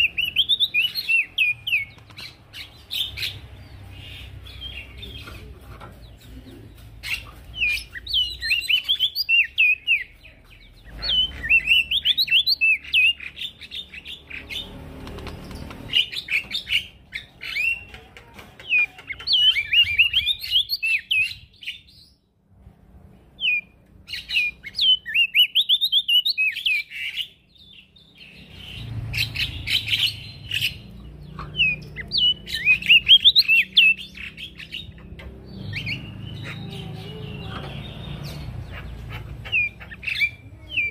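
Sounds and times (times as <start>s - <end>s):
bird twittering song: 0.0s - 22.4s, 23.3s - 40.9s.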